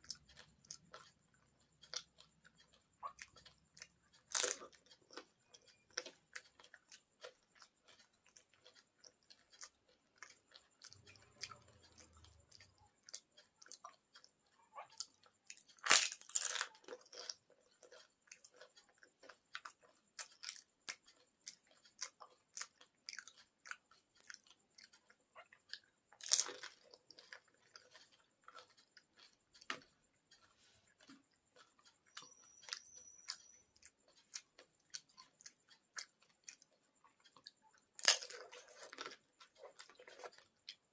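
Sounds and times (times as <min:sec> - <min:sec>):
crisp food crunching while chewing: 0:00.0 - 0:40.9.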